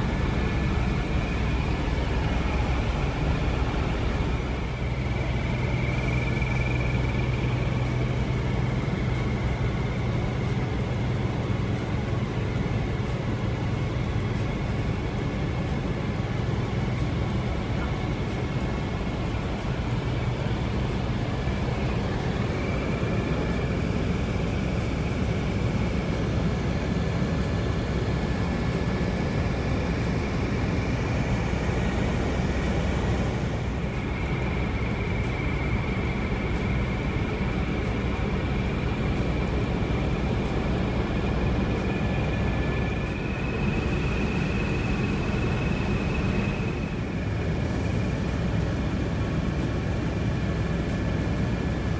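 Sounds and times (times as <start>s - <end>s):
helicopter engine and rotor: 0.0s - 51.9s.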